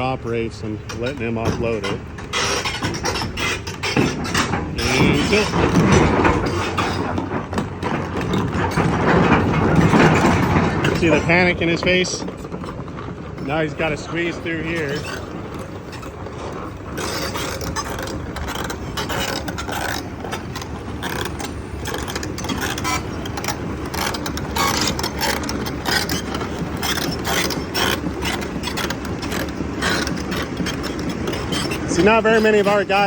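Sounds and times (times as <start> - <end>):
excavator diesel engine rumbling: 0.0 - 33.0
steel tracks clanking: 0.0 - 33.0.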